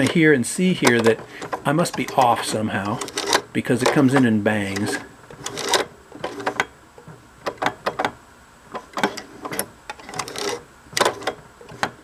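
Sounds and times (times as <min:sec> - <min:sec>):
sewing machine clicking and knocking: 0:00.0 - 0:06.7, 0:08.8 - 0:12.0.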